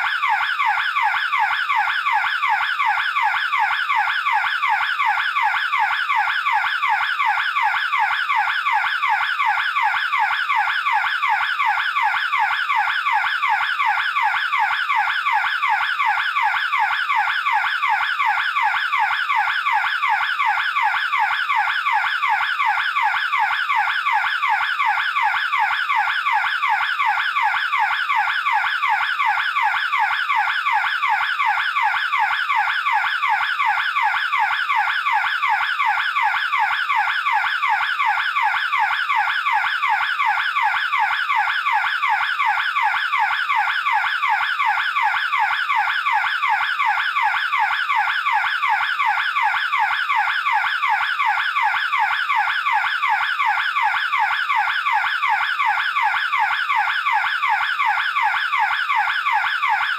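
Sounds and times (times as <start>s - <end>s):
burglar alarm siren warbling: 0.0s - 59.9s.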